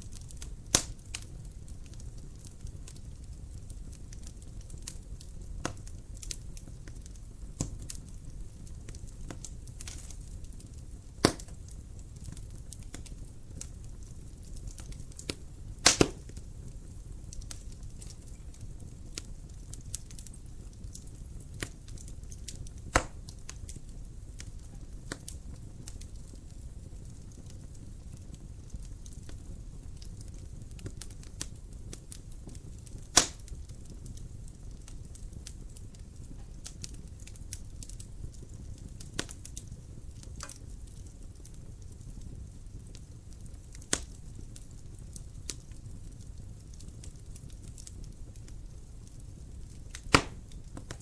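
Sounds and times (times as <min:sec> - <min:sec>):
fire crackling and popping: 0:00.0 - 0:51.0
wood fire rumbling: 0:00.0 - 0:51.0.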